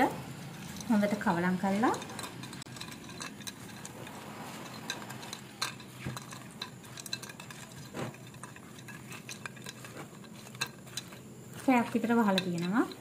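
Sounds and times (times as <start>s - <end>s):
spatula stirring fruit and nuts: 0.0s - 13.0s.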